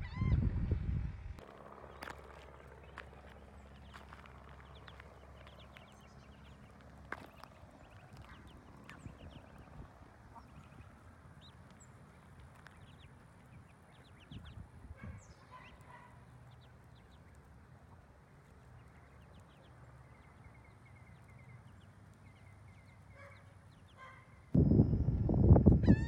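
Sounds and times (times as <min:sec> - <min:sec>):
ducklings peeping: 0:01.4 - 0:24.6.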